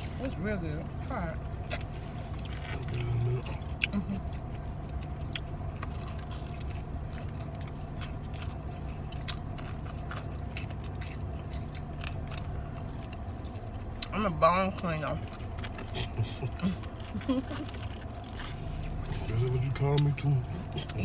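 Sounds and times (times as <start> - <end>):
chewing and crunching food: 0.0 - 21.0
steady low hum: 0.0 - 21.0.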